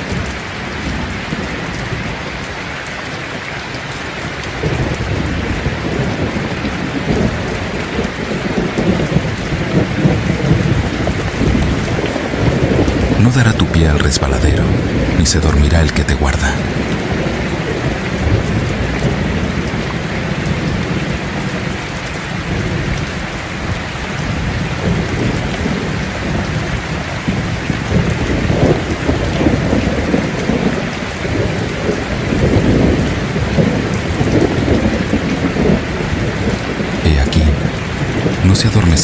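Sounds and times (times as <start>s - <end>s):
low thunder rumbling: 0.0s - 2.7s, 3.8s - 15.6s, 16.4s - 39.0s
rain pouring: 0.0s - 39.0s.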